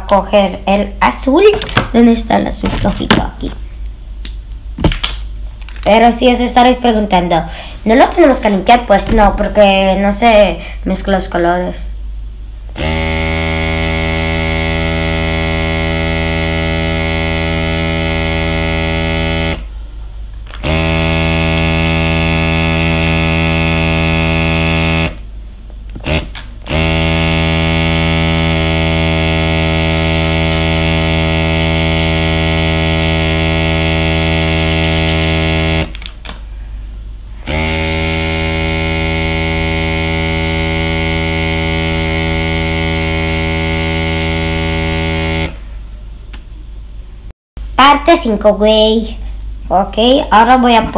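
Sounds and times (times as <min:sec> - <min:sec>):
small air pump buzzing hum: 0:00.0 - 0:47.9.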